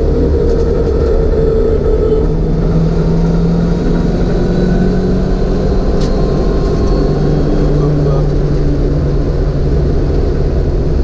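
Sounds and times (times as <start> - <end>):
car engine under load: 0.0 - 11.0
road and wind noise: 0.0 - 11.0.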